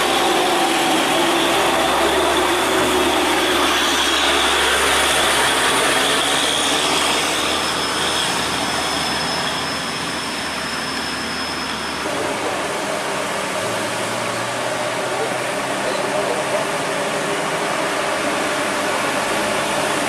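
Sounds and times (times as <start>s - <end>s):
high-pitched whine: 0.0s - 20.0s
truck engine low drone: 0.0s - 20.0s.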